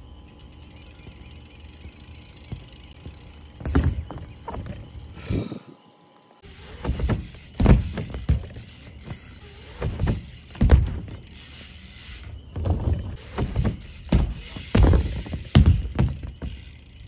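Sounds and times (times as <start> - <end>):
bike wheels thudding on ramp: 1.8 - 5.2, 6.4 - 17.0.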